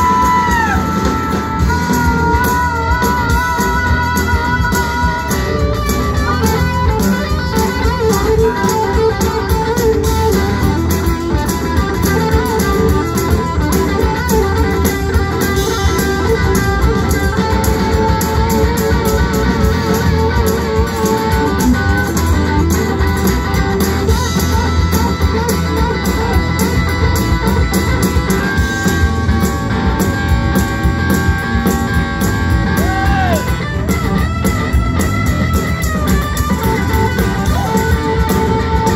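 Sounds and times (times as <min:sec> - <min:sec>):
bass guitar: 0:00.0 - 0:38.9
drums beat: 0:00.0 - 0:38.9
electric guitar lead: 0:00.0 - 0:38.9.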